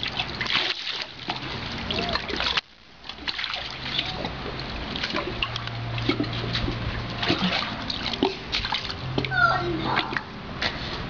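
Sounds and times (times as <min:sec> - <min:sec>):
water drips: 0:00.0 - 0:10.3
low steady hum: 0:00.0 - 0:11.0
pool water sloshing and splashing: 0:00.0 - 0:11.0.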